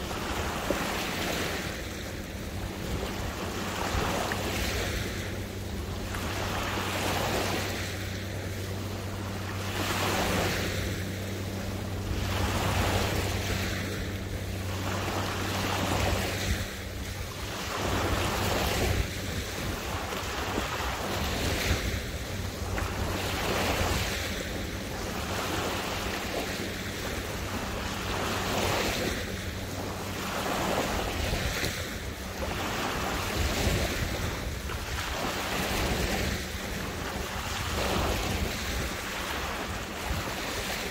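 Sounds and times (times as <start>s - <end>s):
small waves lapping: 0.0s - 40.9s
wind on microphone: 0.0s - 40.9s.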